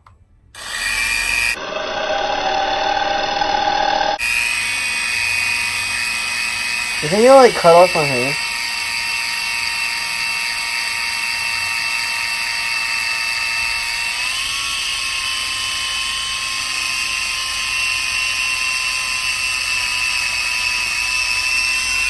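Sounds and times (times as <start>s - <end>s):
toy drone propellers whining: 0.6s - 22.0s.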